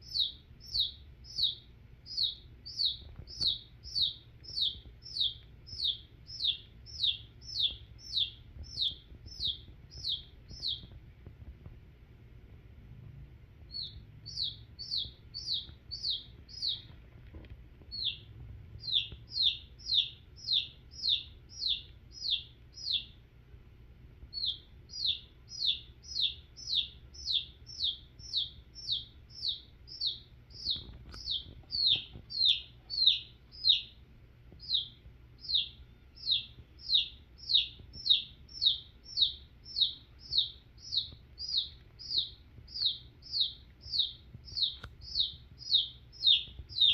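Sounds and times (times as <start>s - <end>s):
chick peeping: 0.0s - 11.4s, 13.6s - 23.2s, 24.3s - 46.9s.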